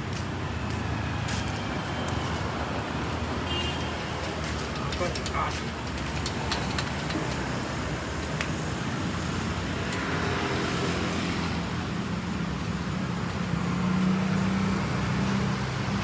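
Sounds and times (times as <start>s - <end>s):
street traffic: 0.0s - 16.0s
vehicle engine humming: 0.0s - 16.0s.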